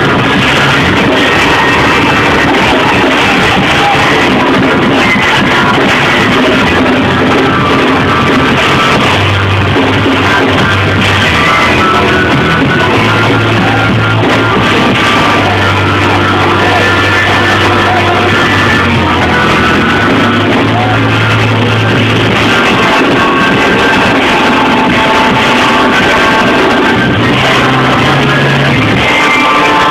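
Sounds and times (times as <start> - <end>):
held bass notes: 0.0 - 29.9
live band music: 0.0 - 29.9.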